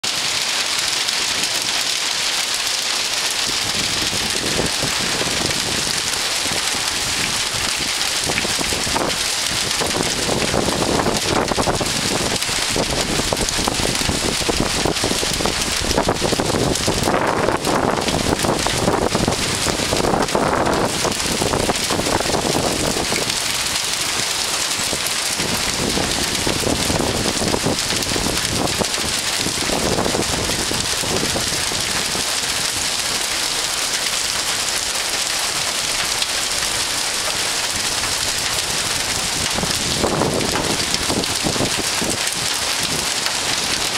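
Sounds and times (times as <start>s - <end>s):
heavy rain and hail: 0.0s - 43.9s.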